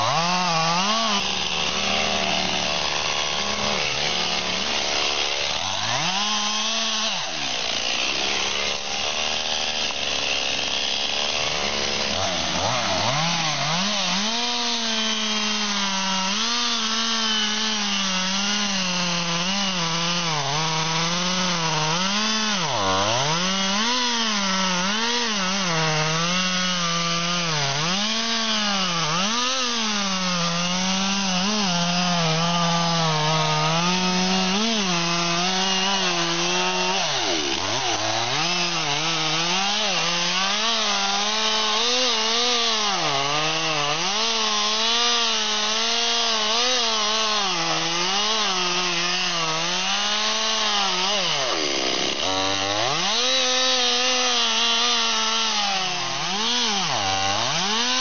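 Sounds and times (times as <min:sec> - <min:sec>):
chainsaw sawing through wood: 0:00.0 - 0:58.0.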